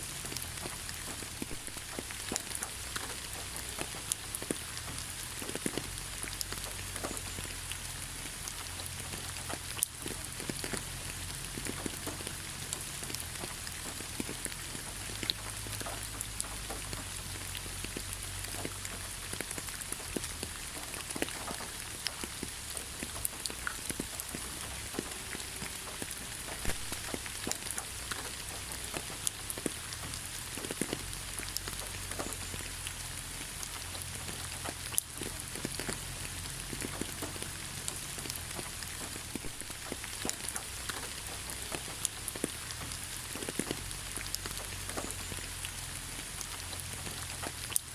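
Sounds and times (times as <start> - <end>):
rain drops falling: 0.0 - 47.9.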